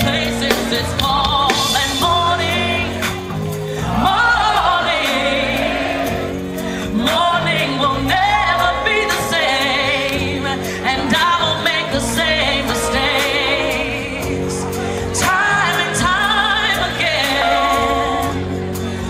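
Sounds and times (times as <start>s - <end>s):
held bass notes: 0.0s - 19.0s
soulful vocal line: 0.0s - 19.0s.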